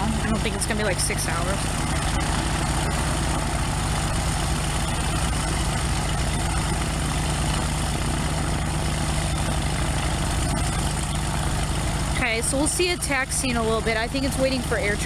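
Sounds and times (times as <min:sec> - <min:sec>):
small plane engine idling: 0:00.0 - 0:15.0.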